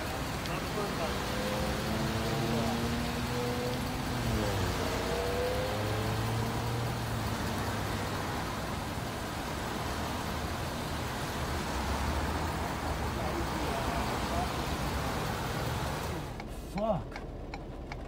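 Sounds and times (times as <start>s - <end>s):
engine hum: 0.0s - 18.0s
traffic noise: 0.0s - 18.0s.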